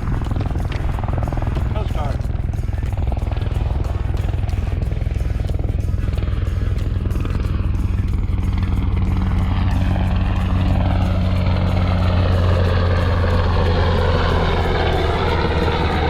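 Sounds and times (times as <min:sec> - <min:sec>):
helicopter rotor drone: 0:00.0 - 0:16.0.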